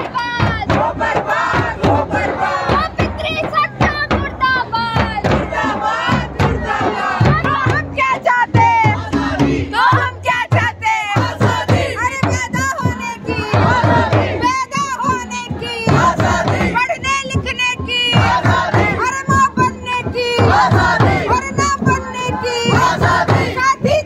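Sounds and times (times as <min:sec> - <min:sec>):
group chanting and singing: 0:00.0 - 0:24.0.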